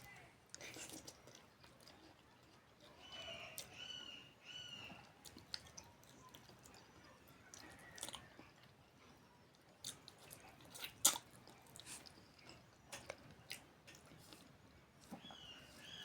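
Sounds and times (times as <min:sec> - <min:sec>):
person chewing food: 0:00.0 - 0:03.8, 0:04.9 - 0:16.0.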